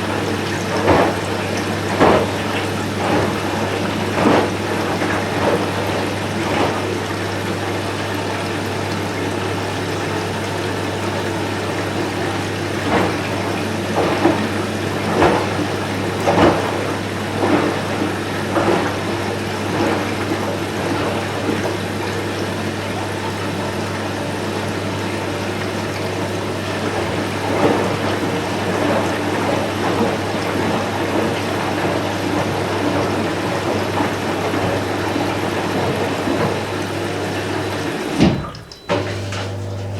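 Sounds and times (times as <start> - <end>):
washing machine hum: 0.0 - 39.9
water sloshing in drum: 0.0 - 39.9
water splashes: 0.0 - 39.9.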